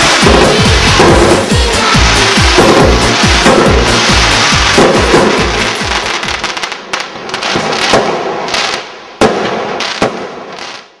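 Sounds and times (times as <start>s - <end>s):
fireworks crackling: 0.0s - 11.0s
sharp firework bangs: 0.0s - 11.0s.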